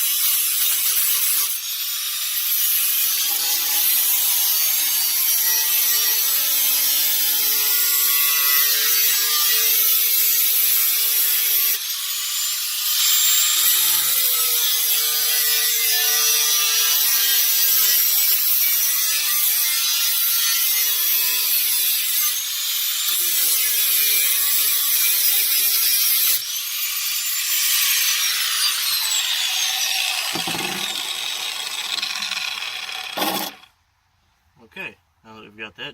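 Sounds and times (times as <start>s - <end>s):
power saw cutting sheet metal: 0.0s - 33.7s.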